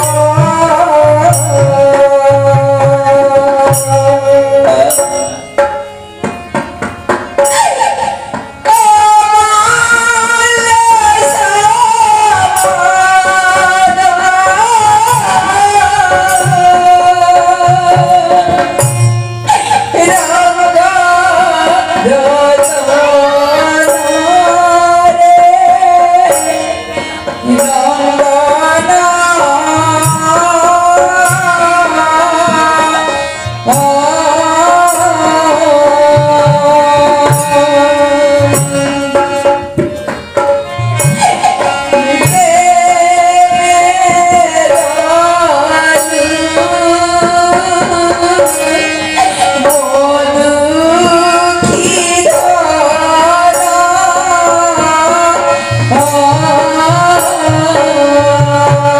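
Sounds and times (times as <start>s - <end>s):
hand drums: 0.0s - 58.9s
sustained melodic instrument: 0.0s - 58.9s.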